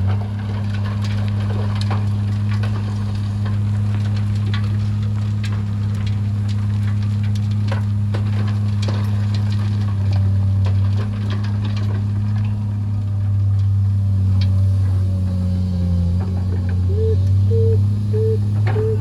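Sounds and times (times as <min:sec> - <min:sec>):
heavy machine engine humming: 0:00.0 - 0:19.0.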